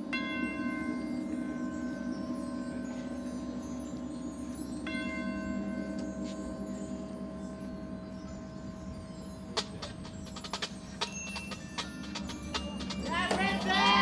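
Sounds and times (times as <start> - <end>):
bell-like percussion tones: 0.0 - 14.0.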